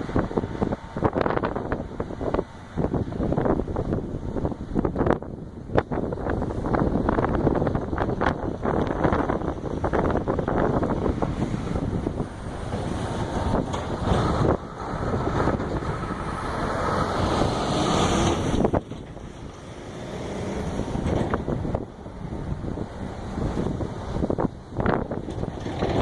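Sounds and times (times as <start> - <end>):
vehicle rumble: 0.0 - 26.0
wind on microphone: 0.0 - 26.0.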